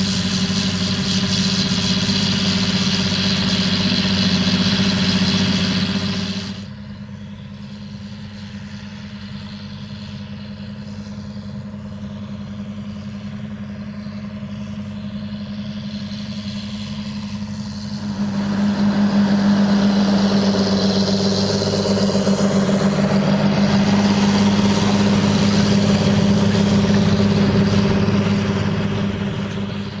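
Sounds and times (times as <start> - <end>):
implement rattle and rush: 0.0 - 30.0
tractor diesel engine running: 0.0 - 30.0.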